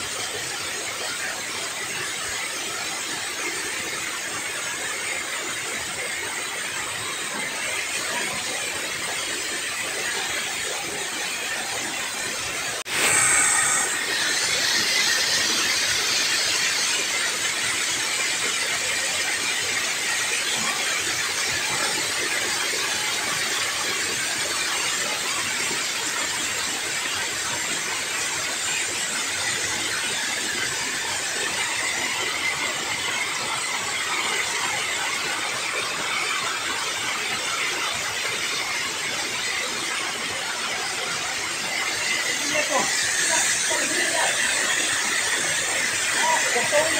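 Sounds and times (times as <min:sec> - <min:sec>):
water rushing down spillway: 0:00.0 - 0:46.9.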